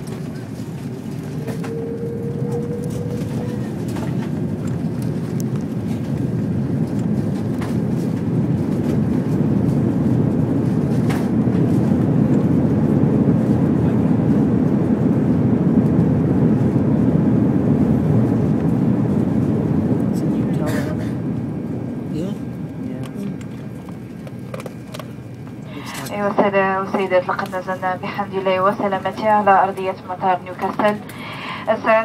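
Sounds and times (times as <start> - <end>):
airliner cabin engine roar: 0.0 - 32.0.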